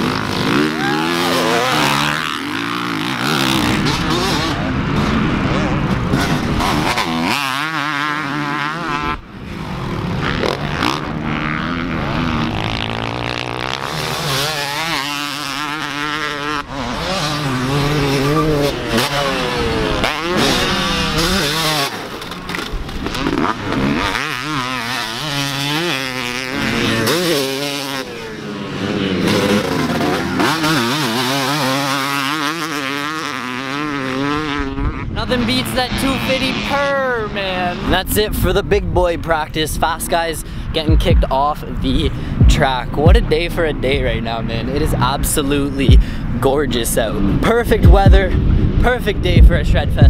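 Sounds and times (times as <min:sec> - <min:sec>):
dirt bike engine revving: 0:00.0 - 0:38.8, 0:39.6 - 0:50.0.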